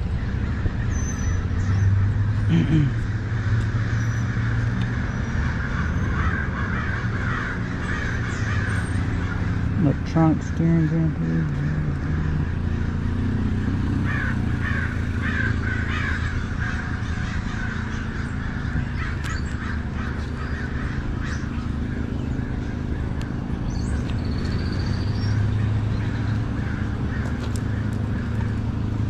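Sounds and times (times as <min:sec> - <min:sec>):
motorcycle engine idling: 0:00.0 - 0:29.0
crows cawing: 0:01.6 - 0:09.8, 0:11.9 - 0:23.9, 0:25.2 - 0:28.8.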